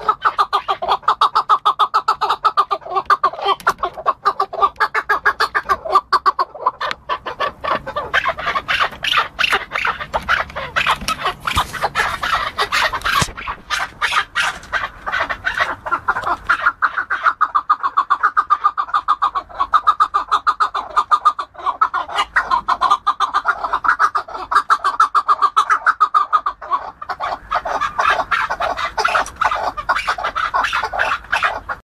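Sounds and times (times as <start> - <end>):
partridge clucking calls: 0.0 - 31.8.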